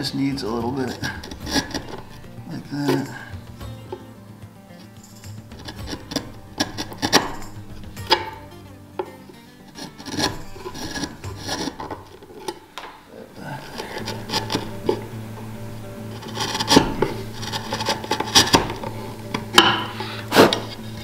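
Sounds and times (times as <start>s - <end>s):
chisel scraping wood: 0.0s - 21.0s.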